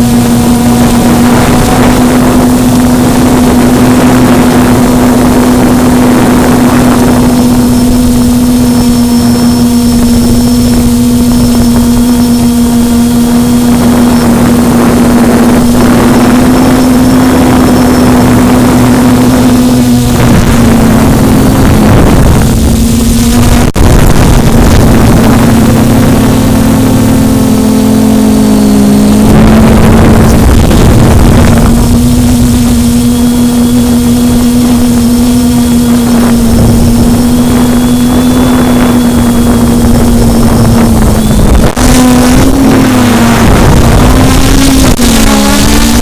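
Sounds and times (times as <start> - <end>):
quadcopter motors humming: 0.0 - 46.0.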